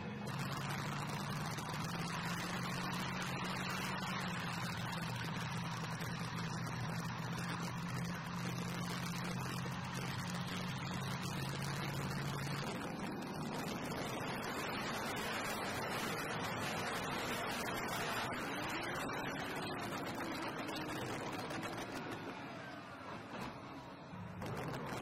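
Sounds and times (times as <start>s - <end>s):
tank engine drone: 0.0s - 25.0s.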